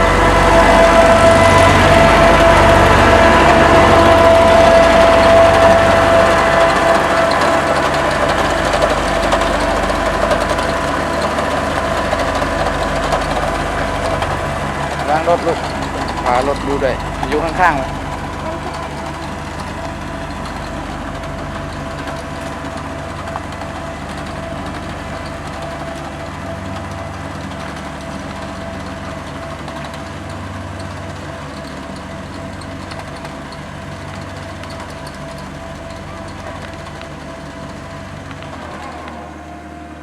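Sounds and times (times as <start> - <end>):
road roller diesel engine: 0.0 - 40.0.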